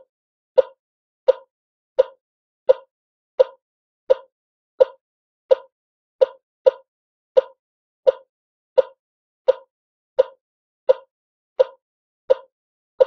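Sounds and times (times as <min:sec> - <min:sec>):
heart monitor blips: 0:00.6 - 0:12.5.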